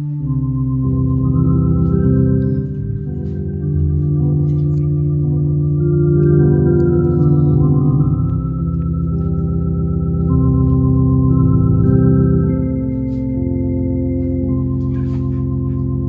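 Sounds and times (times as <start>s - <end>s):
organ playing sustained chords: 0.0s - 16.0s.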